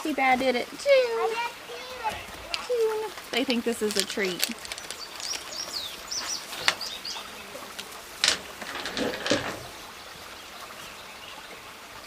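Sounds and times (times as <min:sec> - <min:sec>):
faint outdoor background: 0:00.0 - 0:12.0
small birds chirping: 0:00.1 - 0:08.6, 0:09.6 - 0:11.8.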